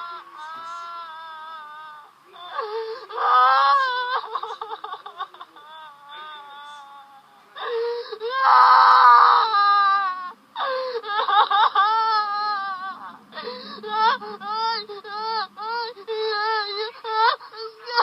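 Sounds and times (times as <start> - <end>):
woman crying and wailing: 0.0 - 18.0.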